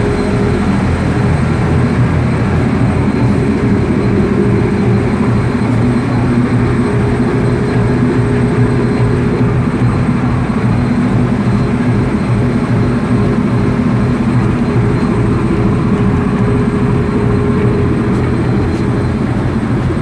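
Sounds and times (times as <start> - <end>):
boat engine droning: 0.0 - 20.0
rush of boat wake: 0.0 - 20.0.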